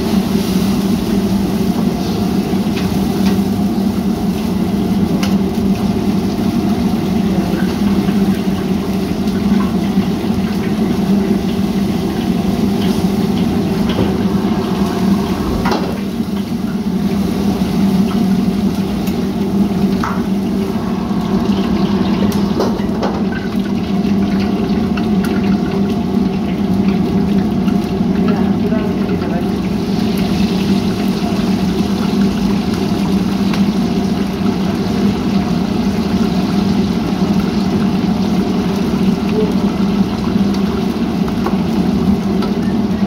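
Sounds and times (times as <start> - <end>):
gas burners roaring: 0.0 - 43.0
water pouring into a wok: 0.0 - 43.0.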